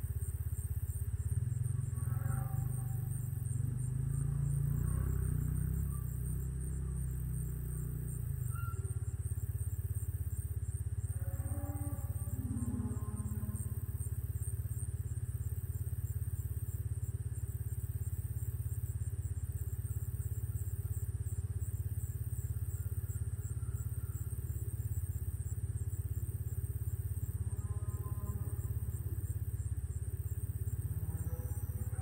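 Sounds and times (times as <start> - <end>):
engine running with low rumble: 0.0 - 32.0.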